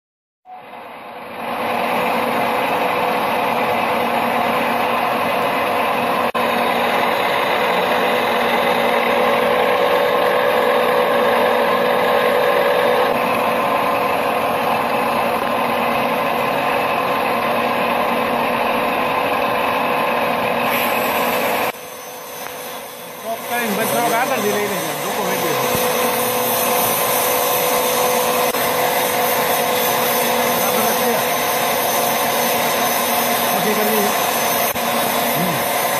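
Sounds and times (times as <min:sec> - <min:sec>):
gear-cutting machine whirring: 0:00.9 - 0:35.9.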